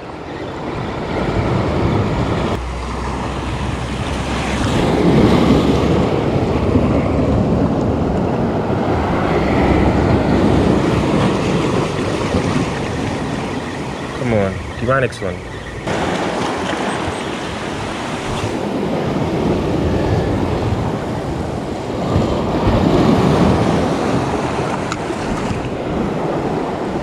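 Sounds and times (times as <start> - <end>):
wind buffeting microphone: 0.0 - 27.0
waves breaking over rocks: 1.8 - 27.0.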